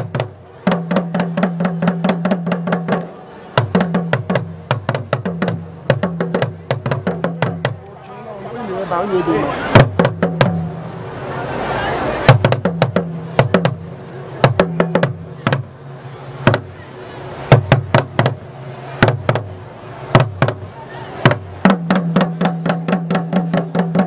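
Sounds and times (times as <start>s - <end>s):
talking drums struck with sticks: 0.0s - 7.9s, 9.7s - 10.8s, 12.2s - 16.8s, 17.5s - 24.0s.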